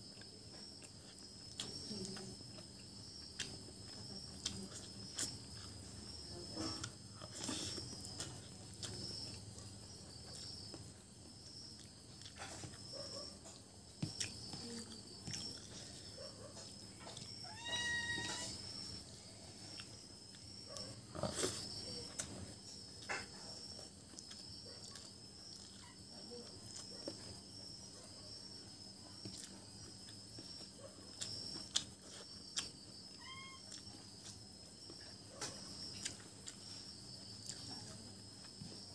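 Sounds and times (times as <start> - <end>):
person chewing and eating by hand: 0.0 - 27.9, 29.0 - 38.9
crickets chirping: 0.0 - 38.9.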